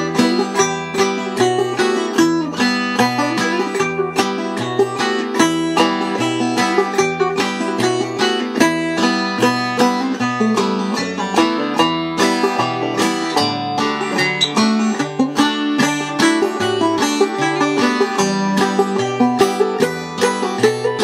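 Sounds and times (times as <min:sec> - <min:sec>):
banjo playing fiddle tune: 0:00.0 - 0:21.0.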